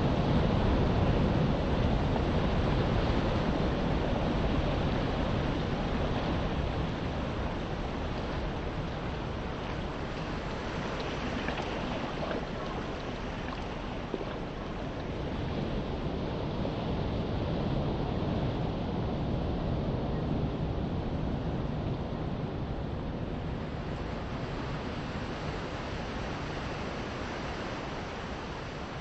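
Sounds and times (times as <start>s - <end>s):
sea waves washing on shore: 0.0s - 18.9s, 23.4s - 29.0s
wind rumbling on microphone: 0.0s - 29.0s.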